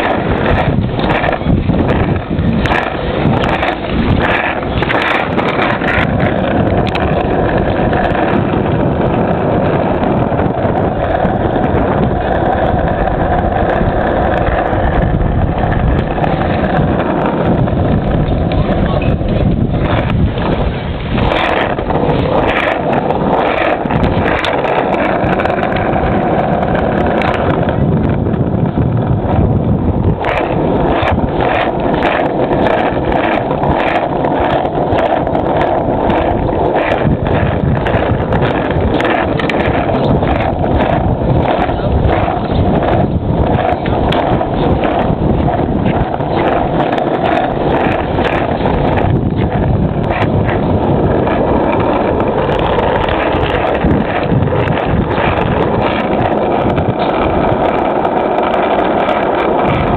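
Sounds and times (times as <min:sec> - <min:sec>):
skateboard wheels rolling on asphalt: 0:00.0 - 0:59.9
wind buffeting microphone: 0:00.0 - 0:59.9.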